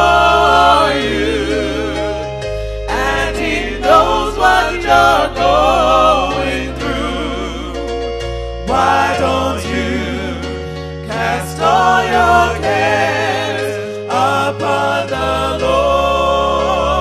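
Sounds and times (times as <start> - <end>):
gospel singing with vibrato: 0.0 - 17.0
held chords: 0.0 - 17.0
steady bass line: 0.0 - 17.0.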